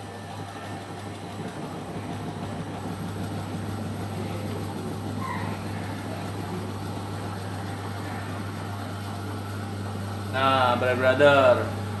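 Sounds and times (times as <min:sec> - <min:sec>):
spin-dryer motor humming: 0:00.0 - 0:12.0.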